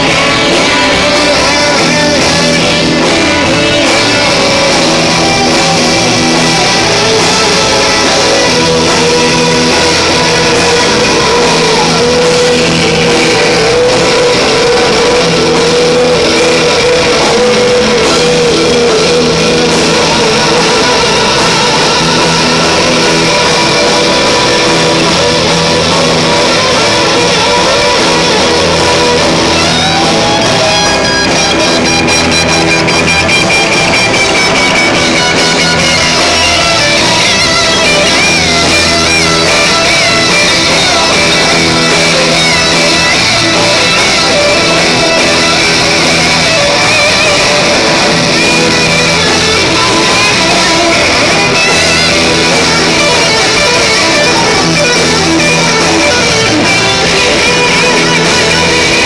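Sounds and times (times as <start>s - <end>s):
electric guitars strumming: 0.0s - 59.0s
high wavering lead guitar: 0.0s - 59.0s
rock band playing: 0.0s - 59.0s.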